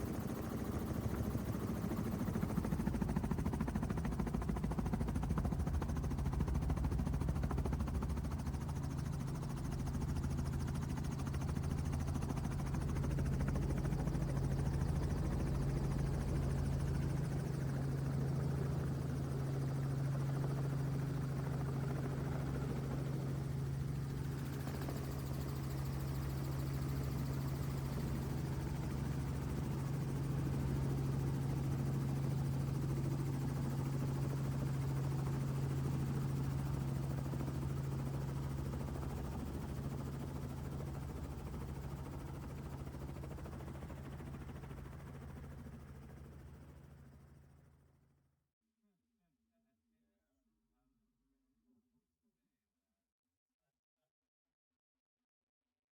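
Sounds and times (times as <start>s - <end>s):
helicopter engine and rotor drone: 0.0s - 48.1s.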